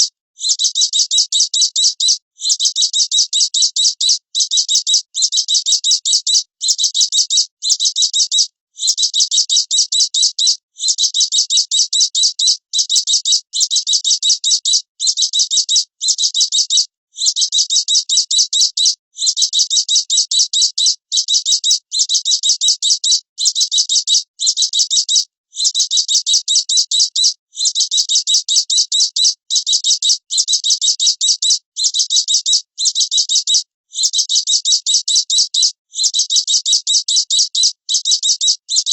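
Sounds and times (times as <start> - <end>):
songbird rattling trill: 0.0 - 38.9.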